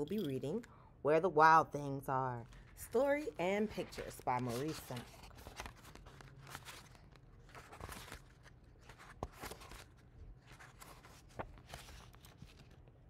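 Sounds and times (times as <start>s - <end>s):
book pages turning: 2.5s - 13.0s.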